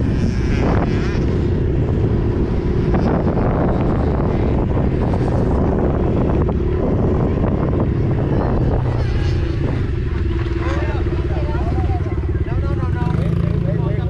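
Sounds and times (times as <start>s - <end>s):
dirt bike engine running: 0.0s - 14.0s
wind buffeting microphone: 0.0s - 14.0s.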